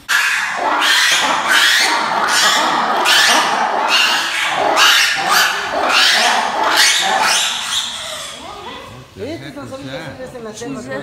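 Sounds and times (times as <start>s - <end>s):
lemurs roar-shriek chorus: 0.0s - 8.9s.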